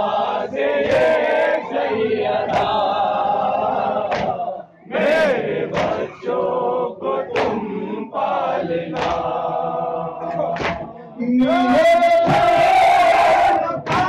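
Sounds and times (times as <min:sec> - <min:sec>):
men chanting in unison: 0:00.0 - 0:14.0
sharp rhythmic strikes: 0:00.7 - 0:14.0.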